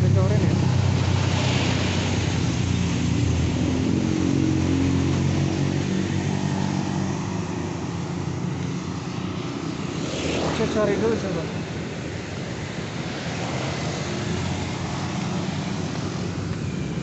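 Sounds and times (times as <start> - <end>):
cars passing: 0.0 - 17.0
motorcycles passing: 0.0 - 17.0.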